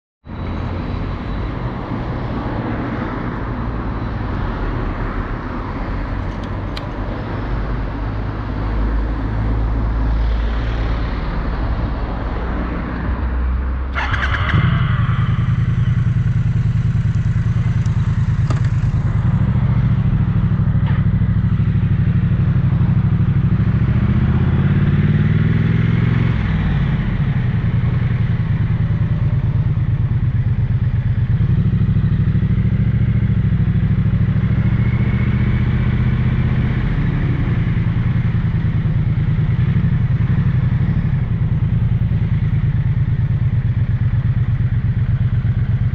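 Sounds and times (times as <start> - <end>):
motorcycle engine idling and revving: 0.2 - 45.9
background traffic rumble: 0.3 - 45.9.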